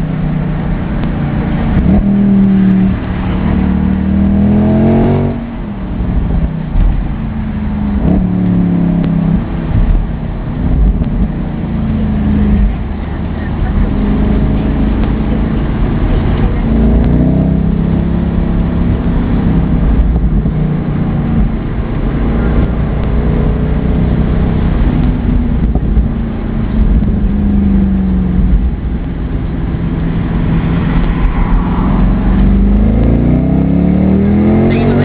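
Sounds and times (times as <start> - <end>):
car engine rumbling and revving: 0.0 - 35.0.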